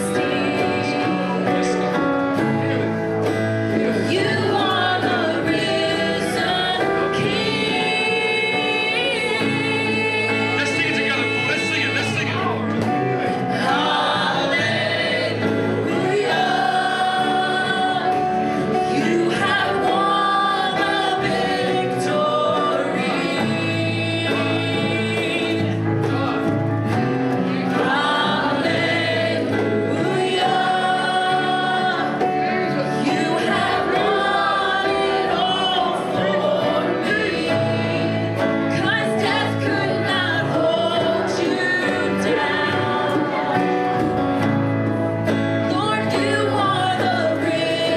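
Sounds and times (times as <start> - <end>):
congregation singing praise song: 0.0 - 47.9
instrumental accompaniment: 0.0 - 47.9.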